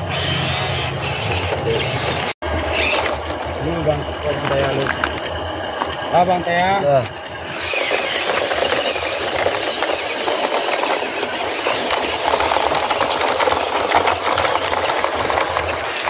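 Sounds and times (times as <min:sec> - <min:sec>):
toy electric motor and gearbox: 0:00.0 - 0:16.0.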